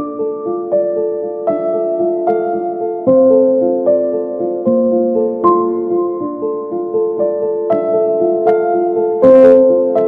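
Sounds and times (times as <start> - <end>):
electric piano music: 0.0 - 10.0.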